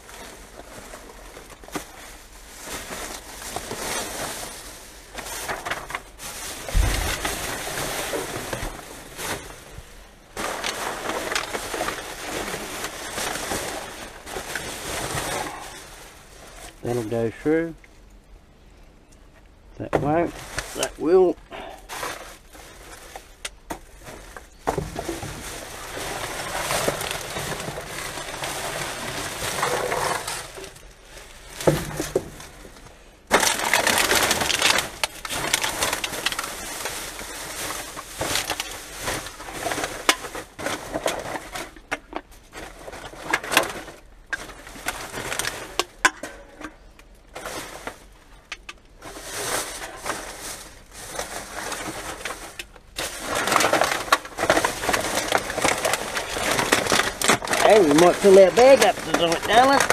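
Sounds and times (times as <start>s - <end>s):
plastic bags crinkling: 0.0s - 17.8s, 20.1s - 59.9s.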